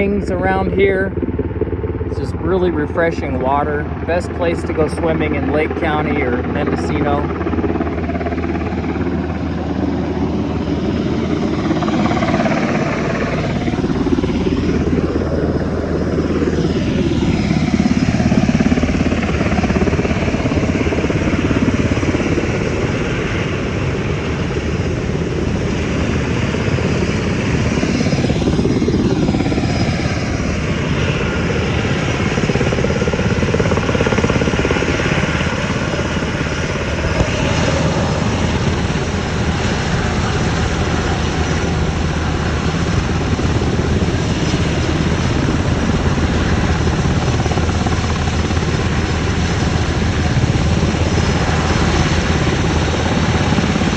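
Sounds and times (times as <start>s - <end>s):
helicopter rotor and engine: 0.0s - 53.9s.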